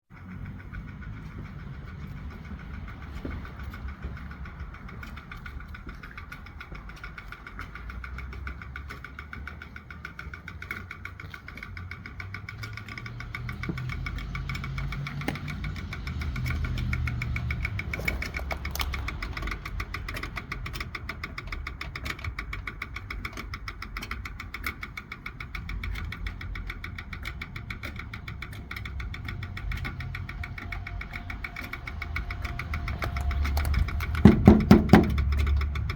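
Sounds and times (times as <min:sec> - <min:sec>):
engine running: 0:00.0 - 0:35.9
fast even ticking: 0:00.1 - 0:35.9.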